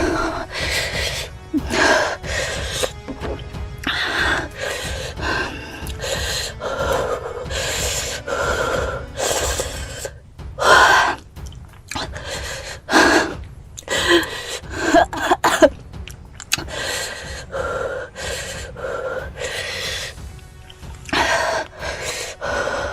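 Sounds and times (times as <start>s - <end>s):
person breathing hard: 0.0s - 3.1s, 3.8s - 11.2s, 11.9s - 15.1s, 16.6s - 20.4s, 21.1s - 22.9s.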